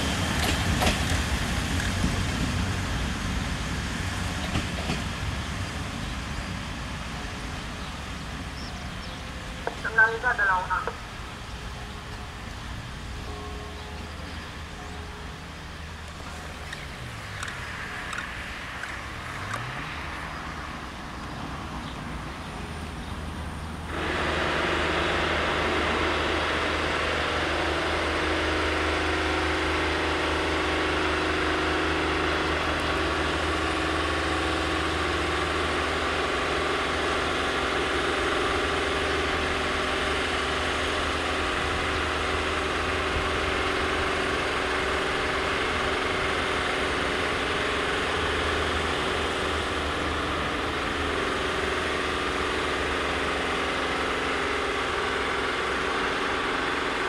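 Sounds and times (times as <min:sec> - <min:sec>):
diesel railcar engine running: 0:00.0 - 0:57.0.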